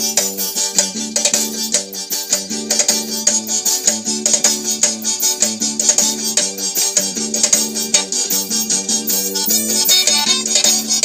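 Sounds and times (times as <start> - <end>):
instrumental music with keyboard: 0.0 - 11.0.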